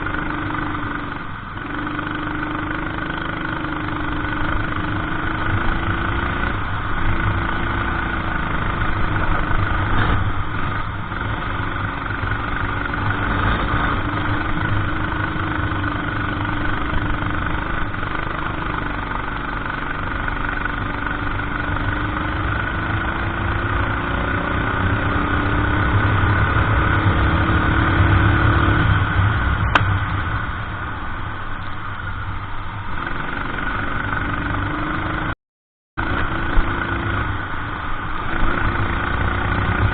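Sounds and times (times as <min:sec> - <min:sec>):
kart engine revving: 0:00.0 - 0:30.6, 0:32.9 - 0:35.4, 0:36.0 - 0:39.9.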